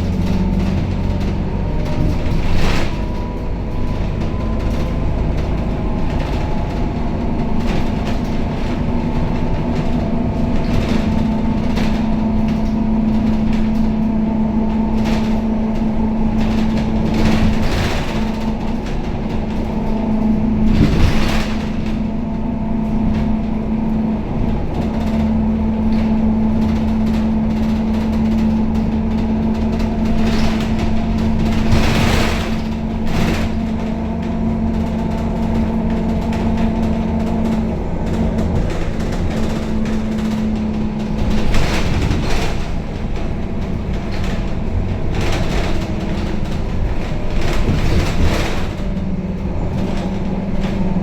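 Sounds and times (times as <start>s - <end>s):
bus engine drone: 0.0s - 51.0s
deep rumble: 0.0s - 51.0s.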